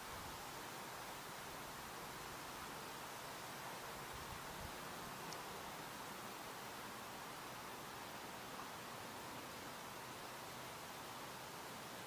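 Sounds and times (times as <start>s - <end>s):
faint even hiss: 0.0s - 12.0s.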